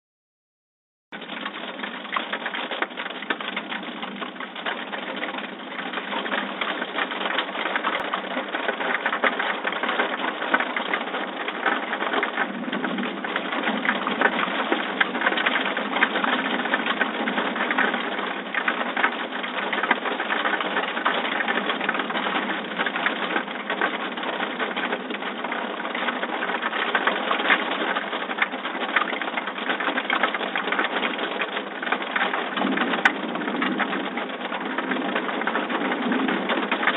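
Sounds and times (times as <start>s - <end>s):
heavy rain falling: 1.2s - 36.9s.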